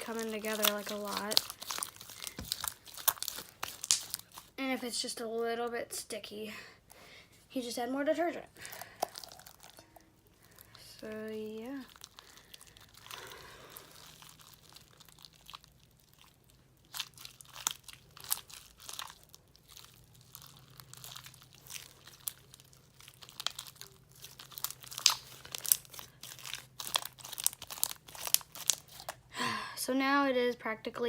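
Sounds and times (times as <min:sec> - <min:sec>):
sticky slime clicks and crackles: 0:00.0 - 0:04.5, 0:08.7 - 0:29.2.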